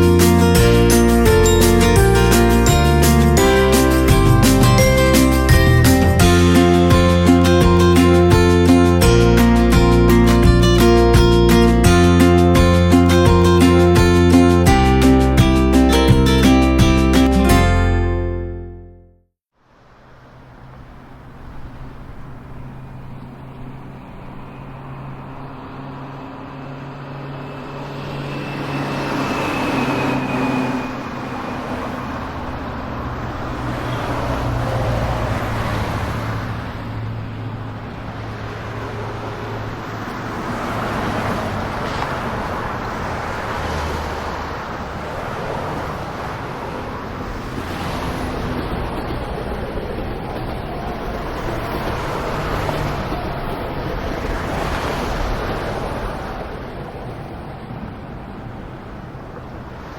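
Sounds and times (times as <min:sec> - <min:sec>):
tyre and road noise: 0:00.0 - 0:18.1, 0:19.5 - 0:59.9
vehicles passing: 0:00.0 - 0:18.9, 0:19.6 - 0:59.9.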